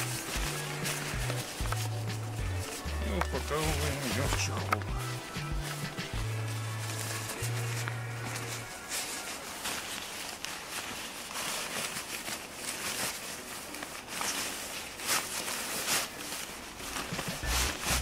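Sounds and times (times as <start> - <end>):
tent fabric rustling: 0.0 - 18.0.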